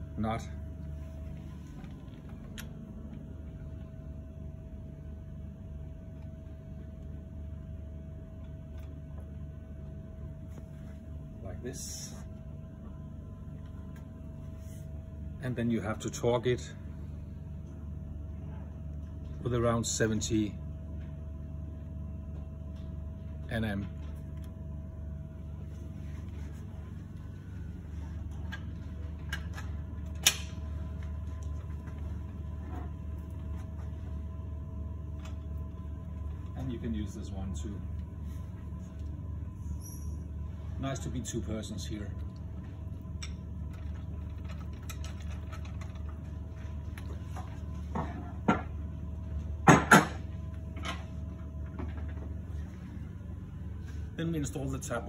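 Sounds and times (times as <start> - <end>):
low room hum: 0.0 - 55.0.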